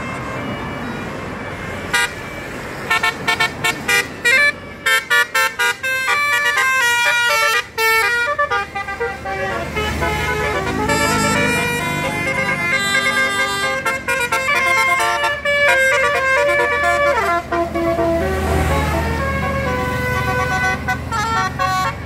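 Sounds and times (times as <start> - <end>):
multi-tone bus horn tune: 0.0 - 22.0
vehicle noise: 0.0 - 22.0.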